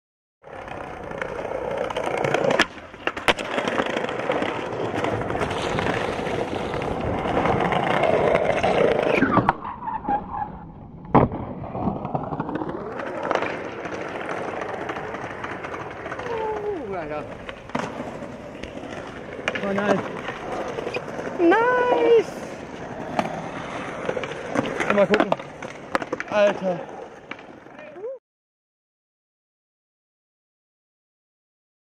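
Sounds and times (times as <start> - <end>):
skateboard wheels rolling on paving: 0.4 - 28.2
skateboard clacking on ground: 0.5 - 9.6, 11.1 - 28.1.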